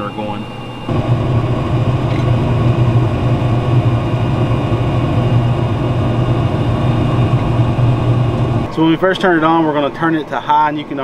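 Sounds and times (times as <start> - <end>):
grill fan and motor humming: 0.0 - 11.0.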